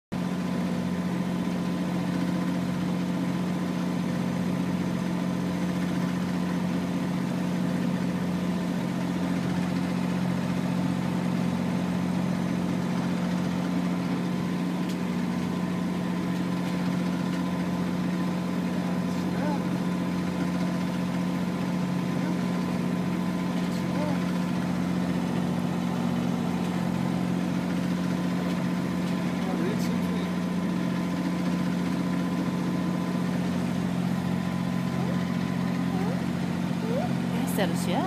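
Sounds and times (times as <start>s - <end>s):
boat engine droning: 0.2s - 38.0s.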